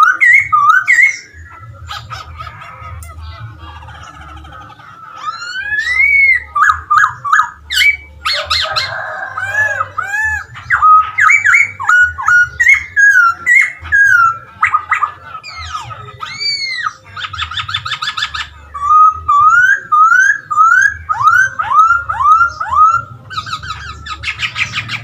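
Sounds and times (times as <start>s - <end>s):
bird singing whistled phrases: 0.0s - 2.4s, 4.7s - 25.0s.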